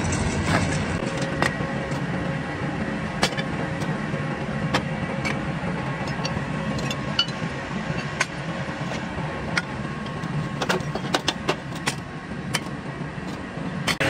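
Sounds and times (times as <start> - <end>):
workshop machine humming: 0.0 - 14.0.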